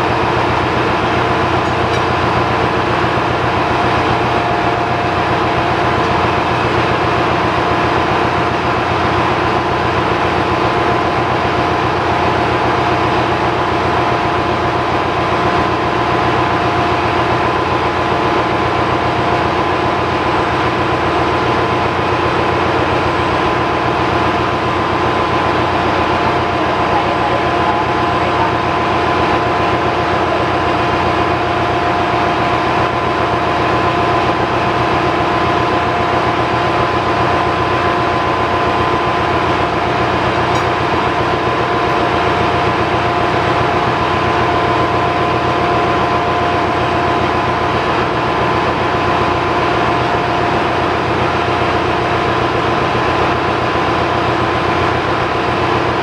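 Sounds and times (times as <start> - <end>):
engine-room machinery hum: 0.0 - 56.0.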